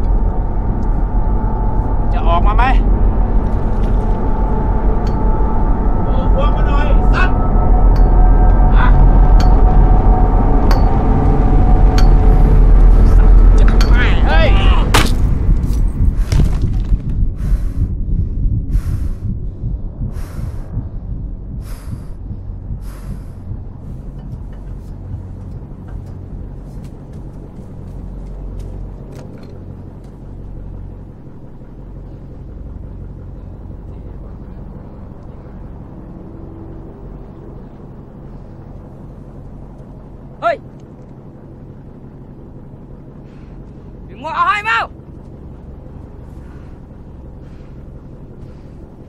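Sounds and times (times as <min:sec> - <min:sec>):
boat engine rumbling: 0:00.0 - 0:49.0.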